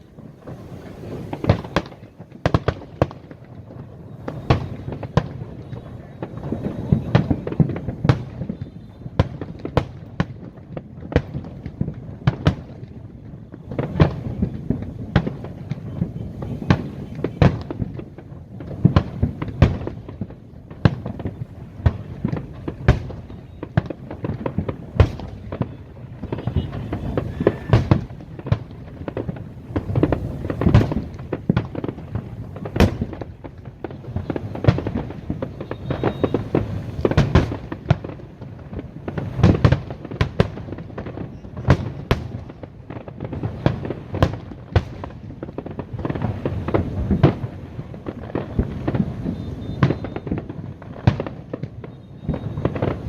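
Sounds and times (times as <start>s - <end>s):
fireworks bangs and cracks: 0.0s - 53.0s.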